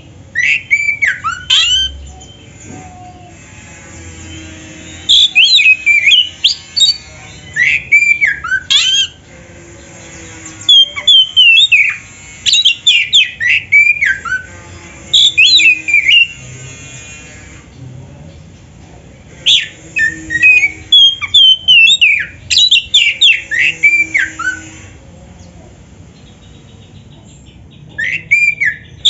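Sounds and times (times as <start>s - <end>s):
bird singing: 0.0s - 16.8s, 17.7s - 29.0s.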